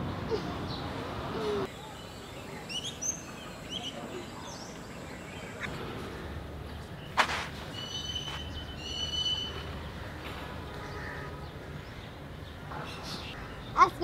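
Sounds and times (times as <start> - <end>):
small birds chirping: 0.3 - 14.0.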